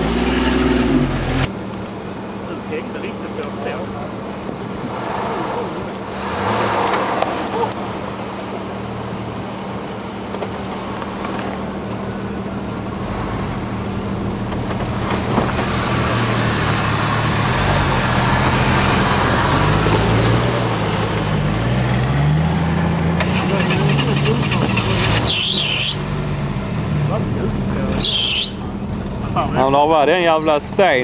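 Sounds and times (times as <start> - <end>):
off-road engine running: 0.0 - 31.0.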